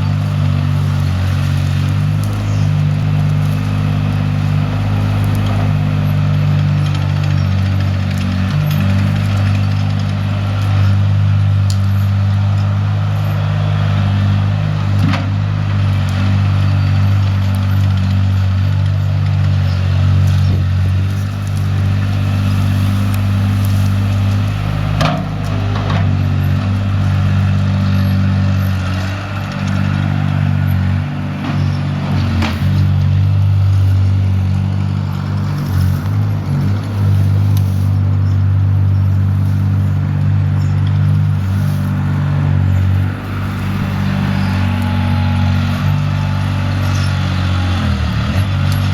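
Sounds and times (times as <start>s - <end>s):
earthmoving machine engine running: 0.0s - 48.9s.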